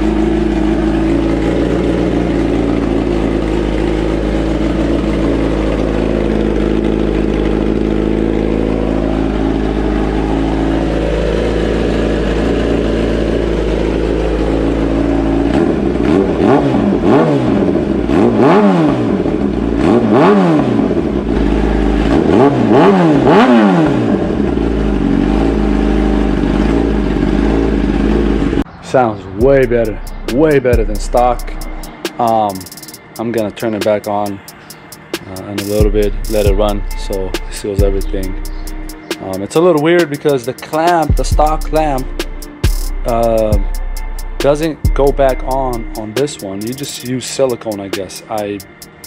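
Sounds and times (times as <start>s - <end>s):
motorcycle engine idling: 0.0s - 49.0s
motorcycle throttle blips: 0.0s - 49.0s.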